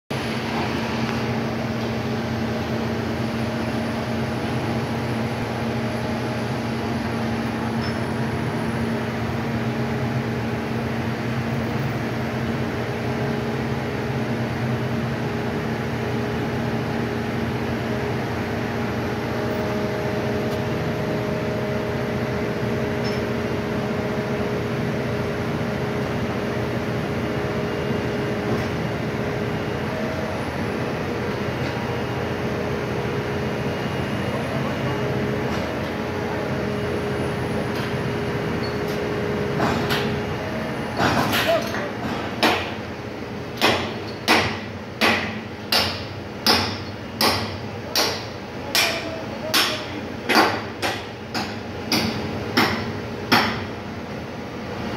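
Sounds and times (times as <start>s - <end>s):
heavy machinery engine humming: 0.1s - 44.1s.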